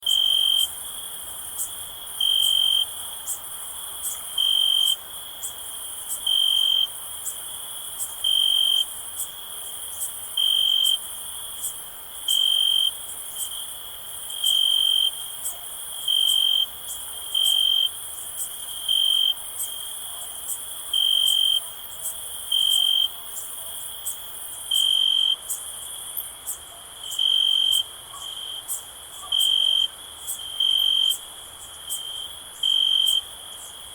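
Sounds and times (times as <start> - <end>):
chorus of insects: 0.0 - 33.9
crickets chirping: 0.0 - 33.9
nearby cricket chirp: 0.0 - 33.9.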